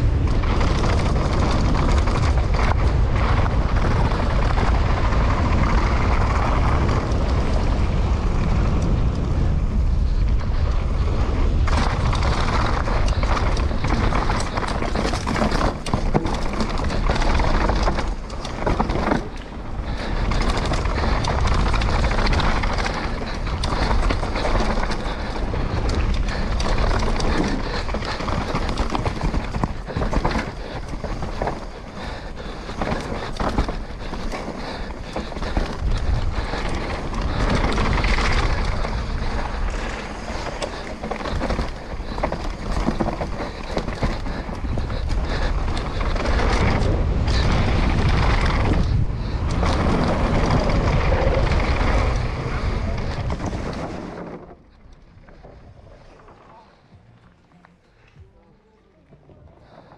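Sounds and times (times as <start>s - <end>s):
bike knocks and rattles: 0.0s - 56.8s
wind rush on microphone: 0.0s - 56.9s
tyre noise: 0.0s - 59.9s.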